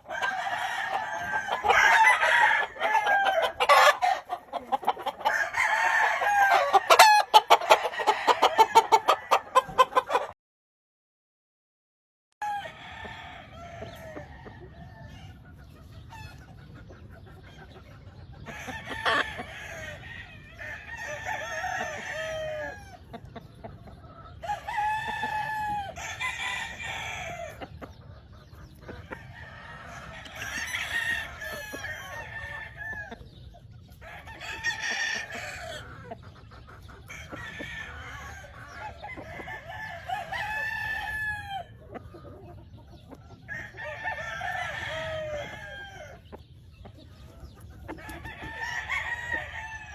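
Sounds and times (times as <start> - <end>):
roosters crowing: 0.0 - 10.4, 12.4 - 16.4, 18.4 - 23.2, 24.2 - 36.2, 36.8 - 42.6, 43.2 - 49.9.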